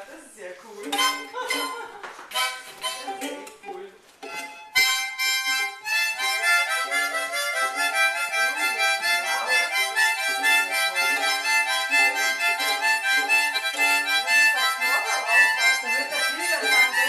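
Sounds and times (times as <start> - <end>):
wind instrument playing chords: 1.0 - 3.3, 4.2 - 17.0.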